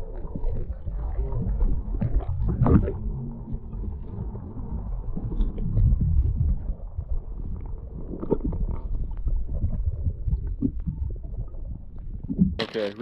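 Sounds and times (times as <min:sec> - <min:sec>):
underwater water rumbling: 0:00.0 - 0:13.0.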